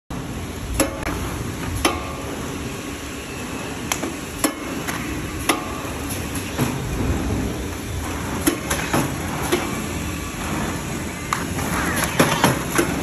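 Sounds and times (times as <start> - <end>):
packing machine humming: 0.1 - 13.0.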